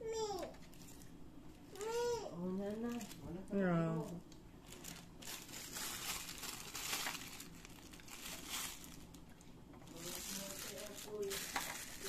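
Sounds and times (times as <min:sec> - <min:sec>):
wrapping material crinkling: 0:00.7 - 0:12.0.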